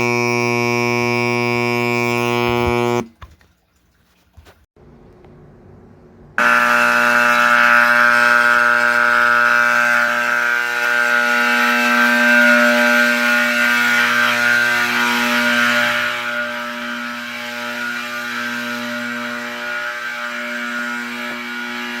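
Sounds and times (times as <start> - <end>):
fire alarm horn buzzing blare: 0.0 - 3.1, 6.4 - 22.0.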